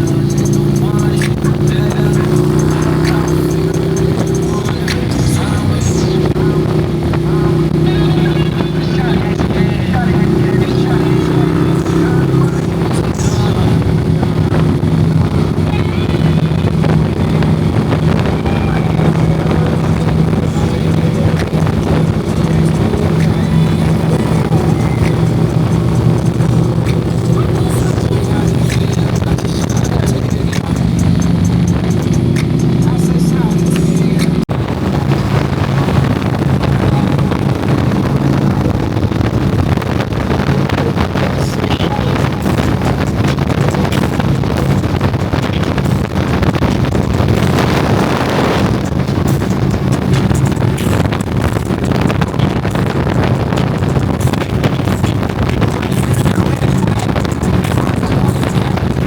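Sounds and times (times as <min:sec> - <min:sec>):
motorcycle engine running: 0:00.0 - 0:59.0
wind rushing: 0:00.0 - 0:59.0.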